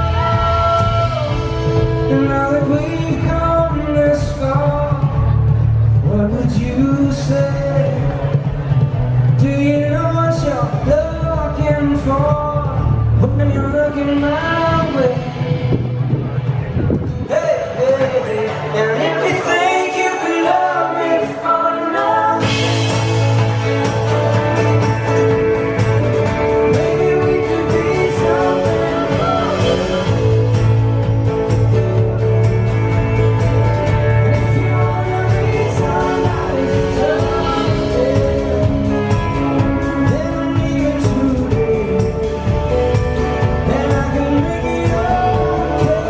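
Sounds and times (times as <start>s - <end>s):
man singing: 0.0s - 16.0s, 17.1s - 46.0s
strummed acoustic guitars: 0.0s - 46.0s.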